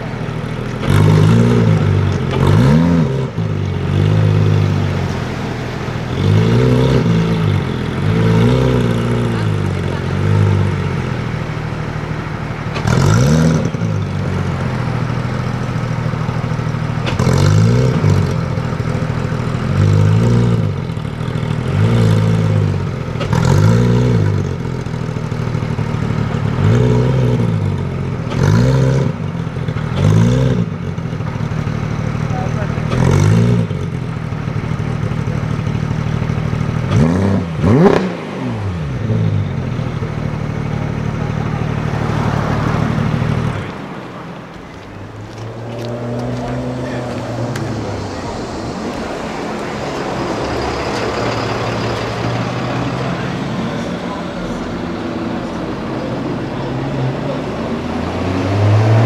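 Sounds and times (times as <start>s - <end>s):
car engine idling: 0.0s - 59.0s
car engine revving: 0.0s - 59.0s.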